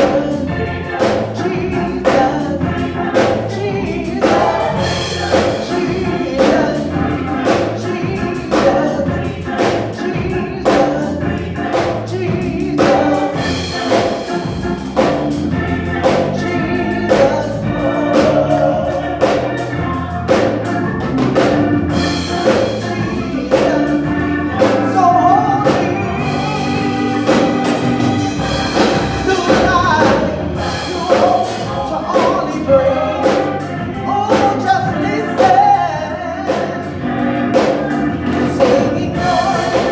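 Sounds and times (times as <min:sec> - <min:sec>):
band accompaniment: 0:00.0 - 0:39.9
choir singing gospel song: 0:00.0 - 0:39.9
steady drum beat: 0:00.0 - 0:39.9.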